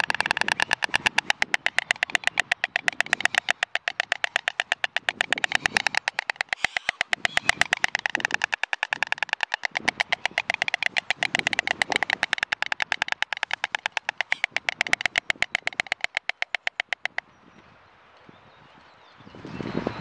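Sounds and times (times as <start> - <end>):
storks bill-clattering: 0.0 - 17.2.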